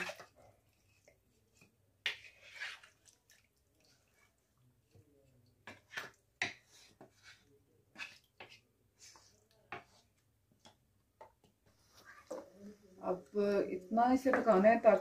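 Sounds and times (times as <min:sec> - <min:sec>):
spoon stirring wet chicken: 0:00.0 - 0:15.0.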